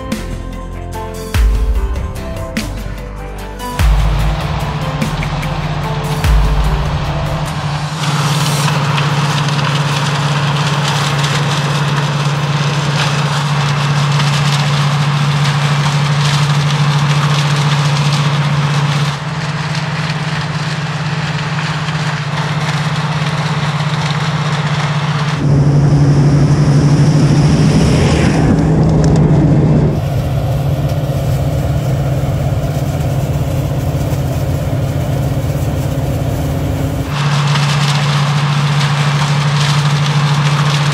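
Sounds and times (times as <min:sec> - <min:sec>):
harvester engine drone: 0:00.0 - 0:40.9
machinery noise: 0:00.0 - 0:40.9.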